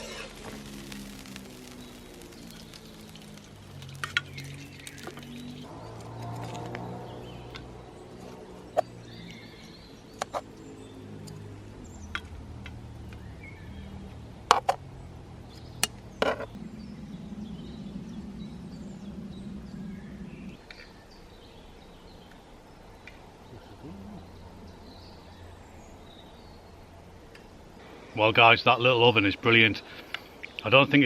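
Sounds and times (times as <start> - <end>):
low steady hum: 0.0 - 28.6
small birds chirping: 0.0 - 31.0.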